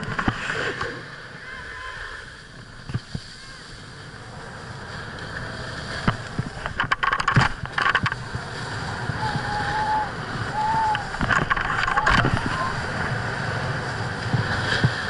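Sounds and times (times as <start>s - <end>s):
snowboard scraping over snow: 0.0s - 15.0s
wind buffeting microphone: 2.5s - 15.0s.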